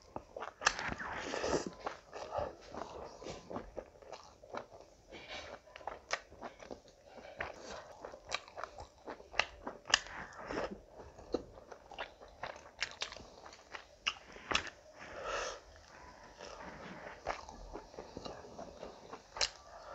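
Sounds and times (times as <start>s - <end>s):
person chewing with wet smacks: 0.0s - 19.9s.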